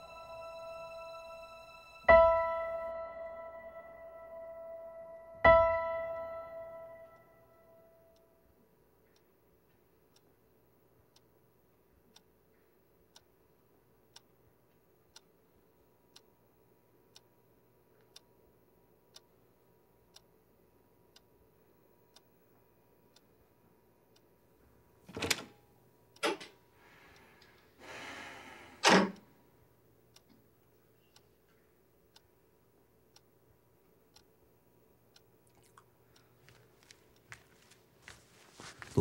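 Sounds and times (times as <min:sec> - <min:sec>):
clock ticking: 0:00.0 - 0:17.3, 0:17.9 - 0:20.5, 0:21.1 - 0:22.4, 0:23.1 - 0:23.4, 0:24.0 - 0:24.4, 0:29.2 - 0:39.0.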